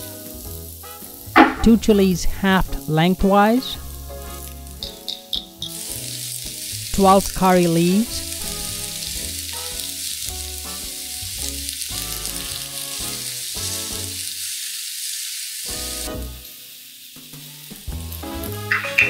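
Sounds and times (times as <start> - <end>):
light background music: 0.0 - 14.4, 17.3 - 19.0
vegetables sizzling in hot oil: 0.0 - 19.0.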